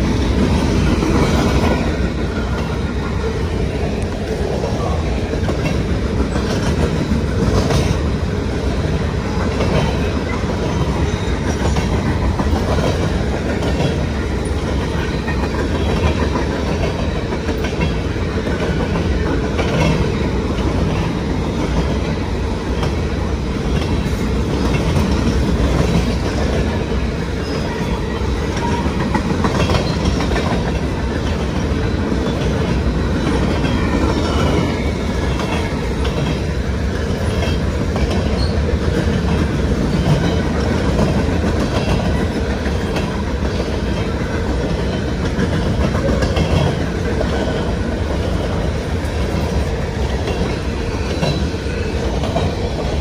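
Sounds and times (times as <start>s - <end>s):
train wheels rumbling on rail: 0.0s - 53.0s
wheels clicking over rail joints: 0.0s - 53.0s.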